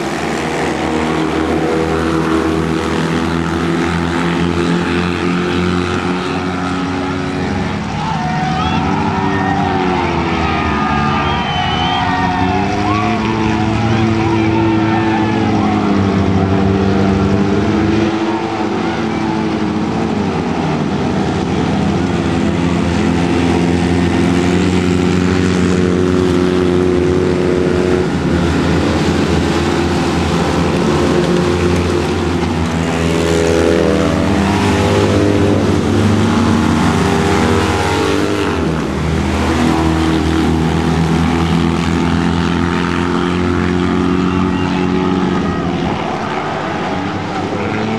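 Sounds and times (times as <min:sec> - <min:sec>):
racing car engines: 0:00.0 - 0:47.9.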